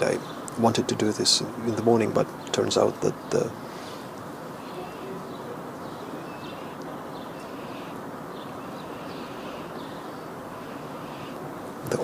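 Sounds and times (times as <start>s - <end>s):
rushing outdoor background noise: 0.0s - 12.0s
small birds chirping: 0.0s - 12.0s.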